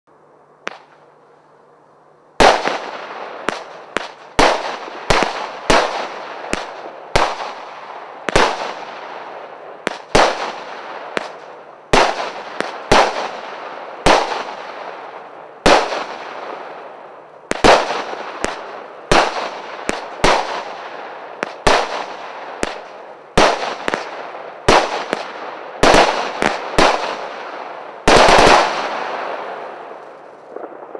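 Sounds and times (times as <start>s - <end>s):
firework bangs with echo: 2.4s - 16.9s, 17.5s - 30.9s.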